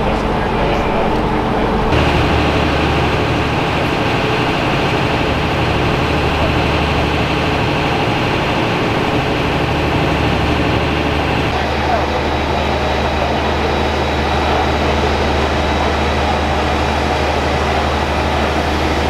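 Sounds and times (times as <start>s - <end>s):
generator engine droning: 0.0s - 19.0s
high whine: 0.0s - 19.0s.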